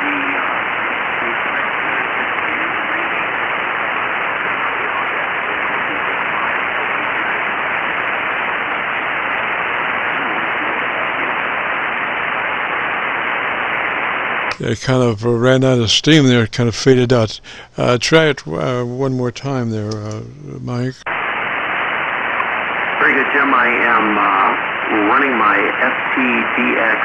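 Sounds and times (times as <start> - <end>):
faint voice in radio noise: 0.0 - 13.1, 13.8 - 21.4, 22.4 - 27.0
radio band noise hiss: 0.0 - 27.0.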